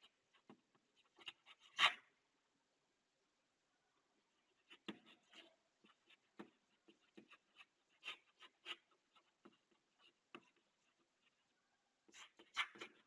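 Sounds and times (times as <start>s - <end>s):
chalk tapping and scratching: 0.0s - 2.0s, 4.4s - 13.0s.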